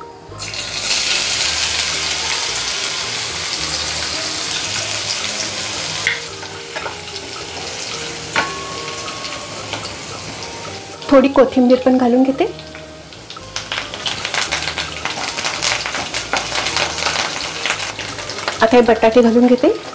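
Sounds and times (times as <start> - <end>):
hot oil sizzling in a pan: 0.3 - 19.9.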